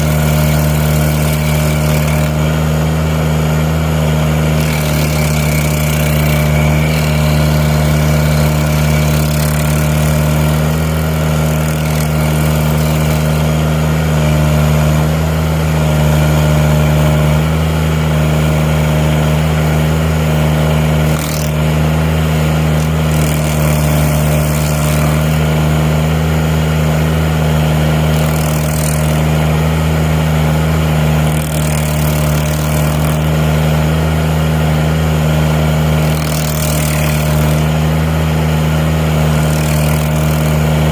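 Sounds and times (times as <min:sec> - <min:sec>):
loader engine running: 0:00.0 - 0:40.9.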